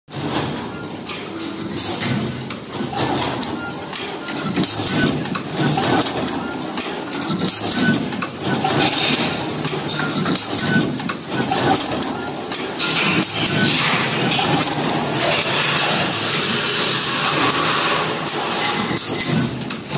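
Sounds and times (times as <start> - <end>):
high machine whine: 0.1 - 19.9
machine clacks and knocks: 0.1 - 19.9
steady machine noise: 0.1 - 19.9.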